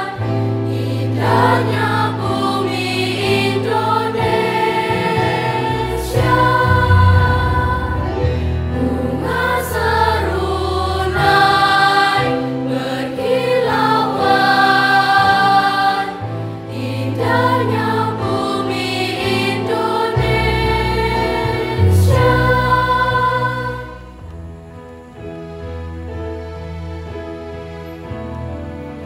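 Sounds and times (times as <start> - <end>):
mixed choir singing long chords: 0.0 - 29.0.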